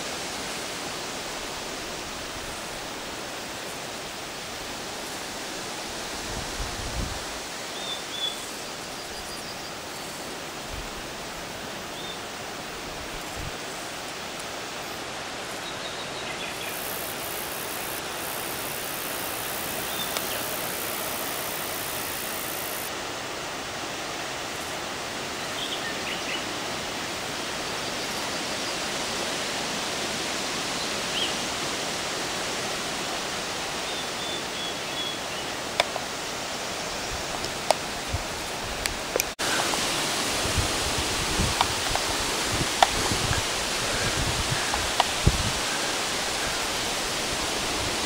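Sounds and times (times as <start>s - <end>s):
open-air ambience hiss: 0.0s - 48.0s.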